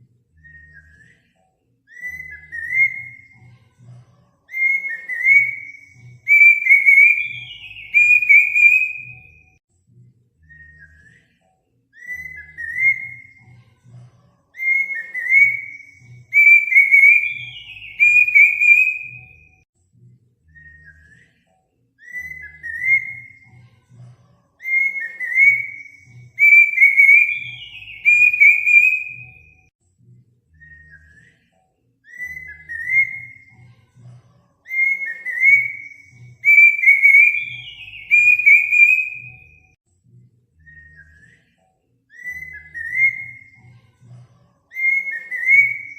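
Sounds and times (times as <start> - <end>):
whistled bird song: 0.0 - 9.6, 10.3 - 29.7, 30.5 - 39.8, 40.5 - 45.9.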